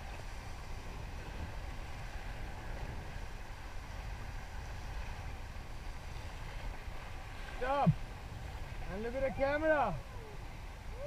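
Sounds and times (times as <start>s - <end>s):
river water rushing: 0.0s - 11.0s
wind buffeting microphone: 0.0s - 11.0s.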